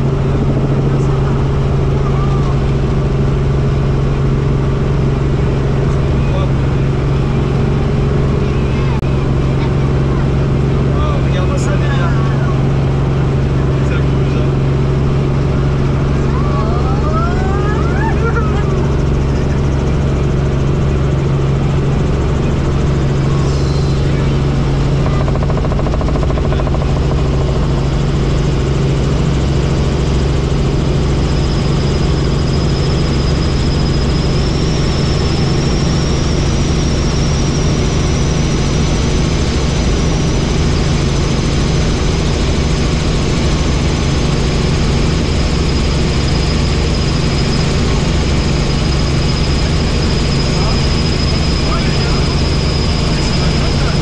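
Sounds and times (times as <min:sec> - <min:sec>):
helicopter rotor and engine: 0:00.0 - 0:54.0
high turbine whine: 0:00.0 - 0:54.0.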